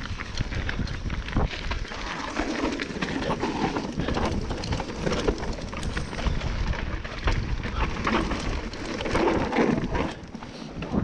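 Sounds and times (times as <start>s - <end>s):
bike rattling and knocking: 0.0s - 11.0s
tyres rolling over dirt and leaves: 0.0s - 11.0s
wind noise on microphone: 0.0s - 11.0s.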